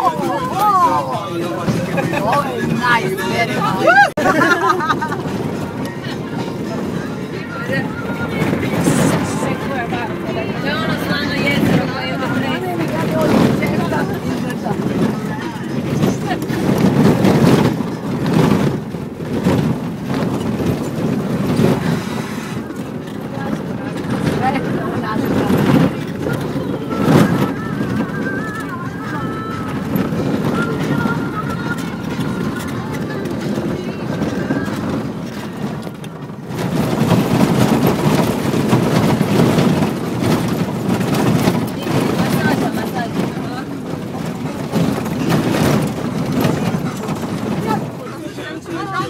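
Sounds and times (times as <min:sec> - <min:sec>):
knocks and rattles: 0:00.0 - 0:49.0
off-road vehicle cabin rumble: 0:00.0 - 0:49.0.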